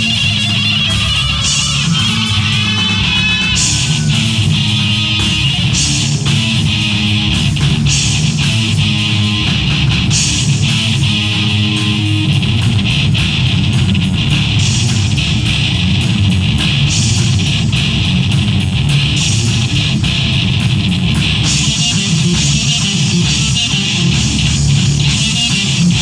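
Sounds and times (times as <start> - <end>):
bass guitar: 0.0 - 26.0
drum kit with ringing cymbals: 0.0 - 26.0
electric guitar: 0.0 - 26.0.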